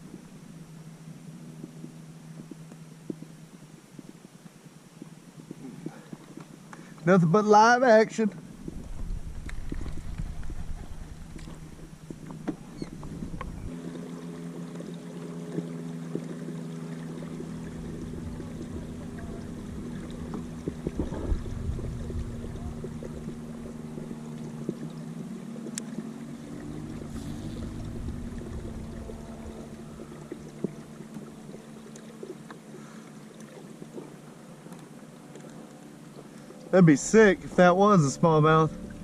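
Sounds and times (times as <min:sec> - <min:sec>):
small boat motor humming: 0:00.0 - 0:39.0
water splashes: 0:05.0 - 0:39.0.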